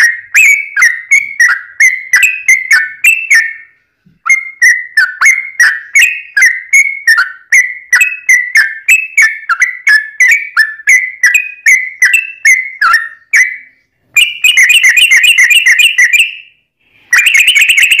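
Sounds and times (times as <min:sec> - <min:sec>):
bird singing: 0:00.0 - 0:16.6.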